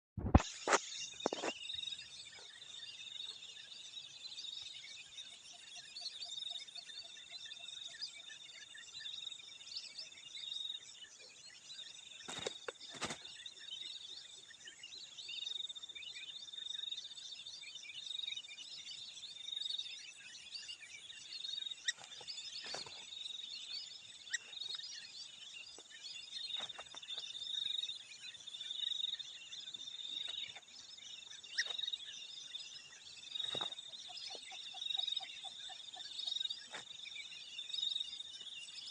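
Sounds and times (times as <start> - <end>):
bird chirps: 0.2 - 38.9.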